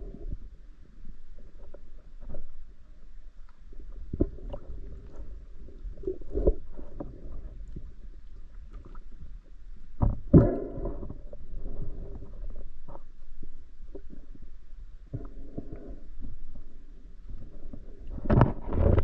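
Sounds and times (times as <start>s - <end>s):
muffled underwater sloshing: 0.0s - 19.0s
underwater bubbling: 0.0s - 19.0s.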